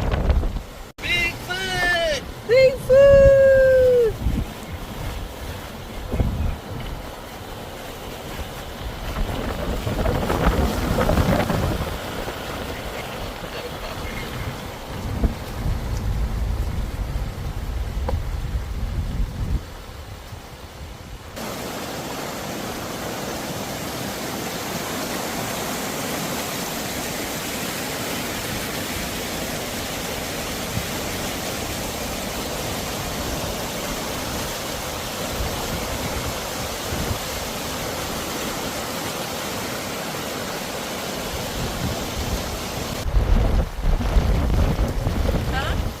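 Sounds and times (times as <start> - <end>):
fast-flowing river water: 0.0 - 18.8, 19.4 - 46.0.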